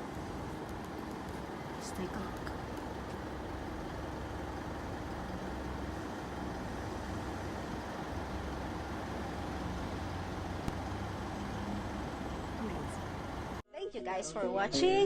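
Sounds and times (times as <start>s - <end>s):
traffic rumble: 0.0s - 13.6s.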